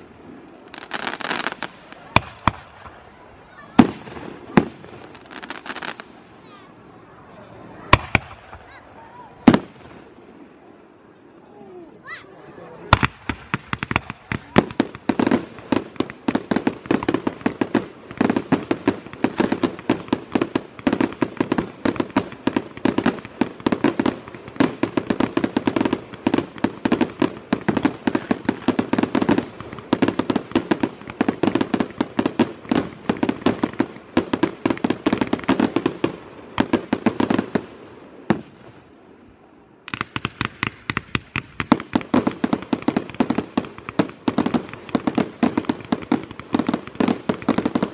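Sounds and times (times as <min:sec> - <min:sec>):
firework bangs and pops: 0:00.0 - 0:03.0, 0:03.6 - 0:06.2, 0:07.8 - 0:08.8, 0:09.4 - 0:10.1, 0:12.9 - 0:38.8, 0:39.9 - 0:47.9.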